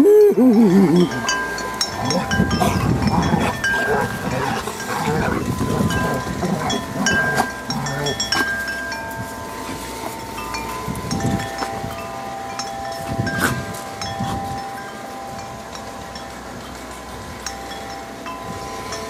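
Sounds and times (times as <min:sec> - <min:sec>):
wind chimes ringing: 0:00.0 - 0:19.0
sharp clinks: 0:00.5 - 0:16.8.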